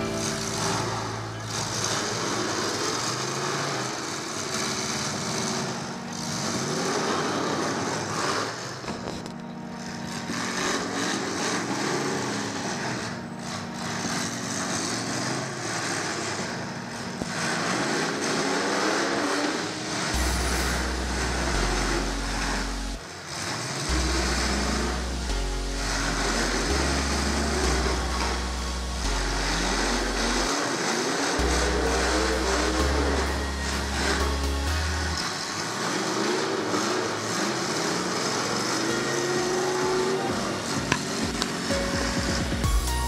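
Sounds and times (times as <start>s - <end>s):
music over loudspeakers: 0.0s - 2.6s, 5.7s - 15.7s, 16.6s - 37.3s, 38.8s - 43.0s
car engines revving hard: 0.0s - 42.7s.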